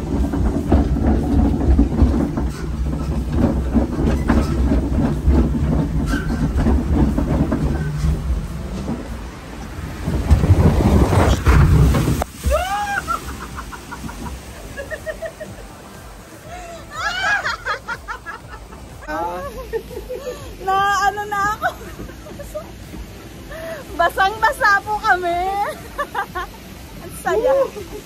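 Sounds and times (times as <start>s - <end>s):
ride boat rumbling: 0.0s - 28.0s
water rushing and splashing: 0.0s - 28.0s.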